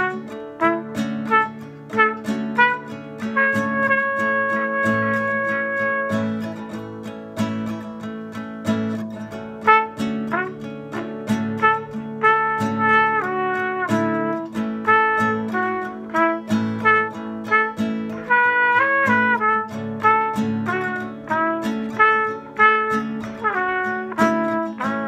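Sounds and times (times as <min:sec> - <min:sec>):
trumpet improvising: 0:00.0 - 0:06.6, 0:09.6 - 0:25.0
classical guitar strumming: 0:00.0 - 0:25.0.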